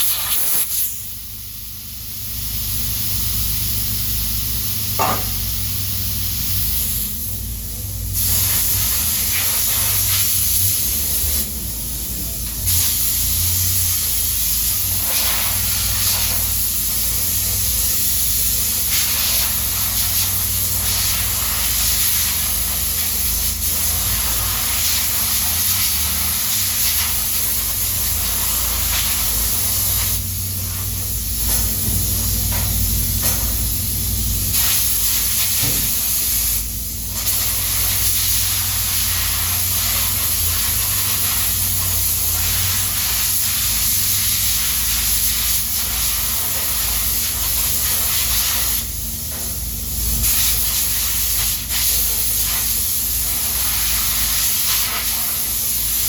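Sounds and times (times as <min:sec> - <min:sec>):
loud steady hiss: 0:00.0 - 0:56.0.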